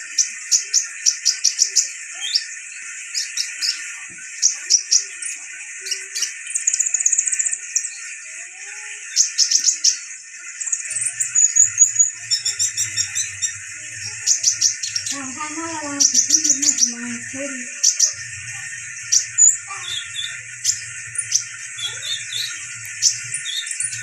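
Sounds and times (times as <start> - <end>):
sunbird chirping and trilling: 0.0 - 24.0.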